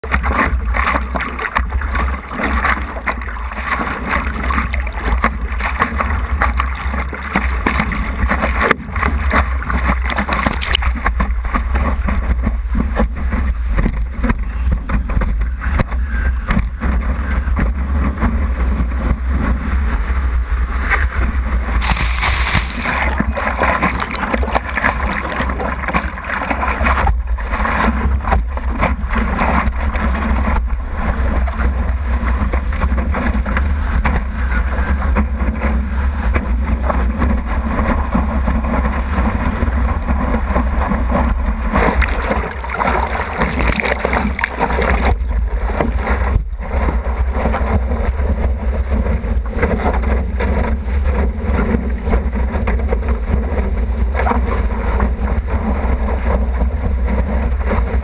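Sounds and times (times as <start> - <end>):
water rushing and splashing: 0.0 - 58.0
wind rumbling on microphone: 0.0 - 58.0.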